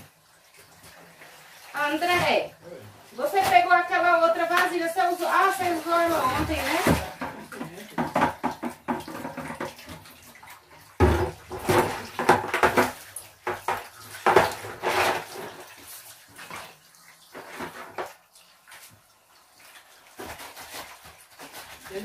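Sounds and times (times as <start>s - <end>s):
water splashing in plastic basin: 0.0s - 22.0s.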